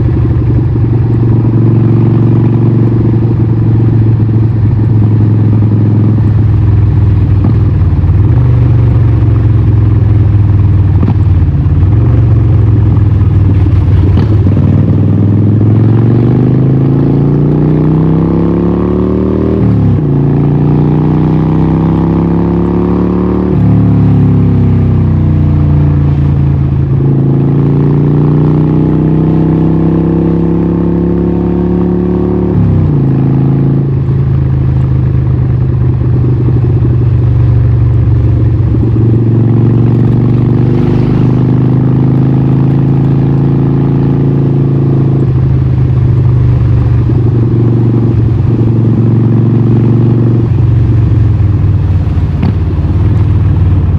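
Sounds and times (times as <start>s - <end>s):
motorcycle engine shifting gears: 0.0s - 53.9s.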